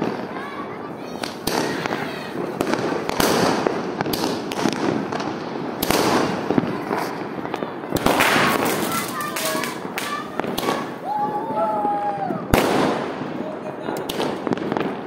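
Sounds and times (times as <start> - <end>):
firecrackers crackling: 0.0 - 15.0
fireworks bangs: 0.0 - 15.0.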